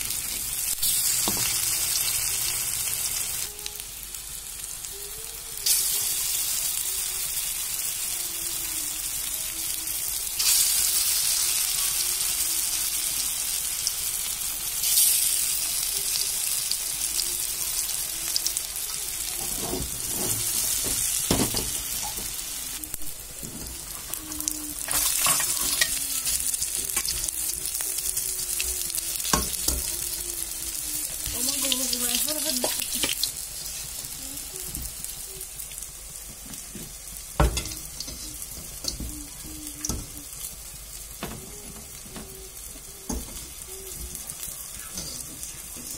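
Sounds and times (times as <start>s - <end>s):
fritters sizzling in oil: 0.0s - 45.9s.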